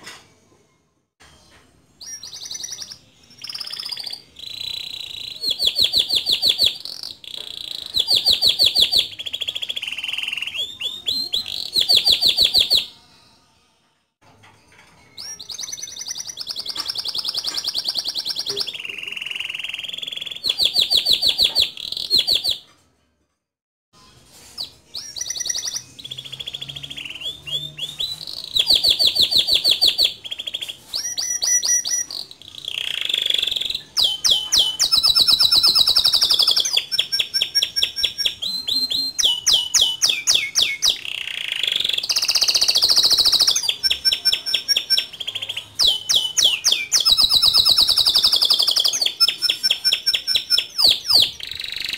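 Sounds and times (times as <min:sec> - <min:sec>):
canary singing trills: 0:02.0 - 0:13.0, 0:15.1 - 0:22.6, 0:24.6 - 0:51.9.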